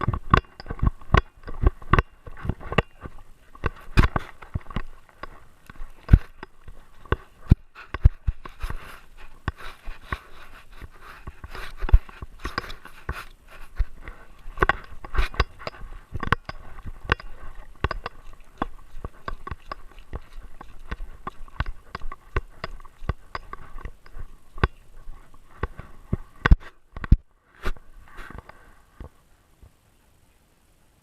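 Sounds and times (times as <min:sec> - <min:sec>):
rustling: 0:00.0 - 0:30.4.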